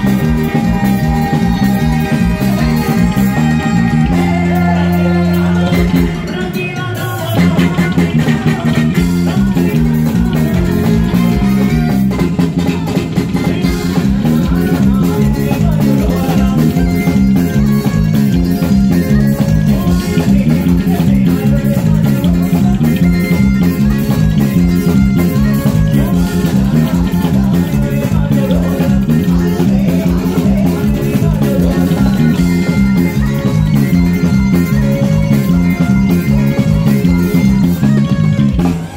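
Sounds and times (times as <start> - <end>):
bass guitar line: 0.0 - 38.9
drum kit steady beat: 0.0 - 38.9
live band playing: 0.0 - 38.9.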